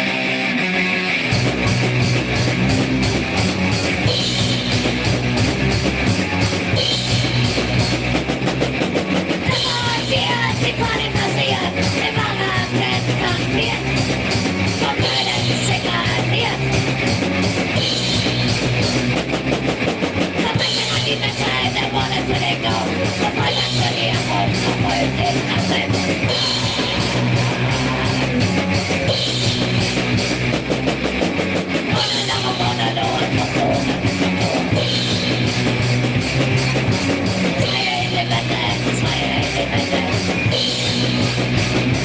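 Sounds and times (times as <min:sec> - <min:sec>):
punk rock band playing: 0:00.0 - 0:42.0.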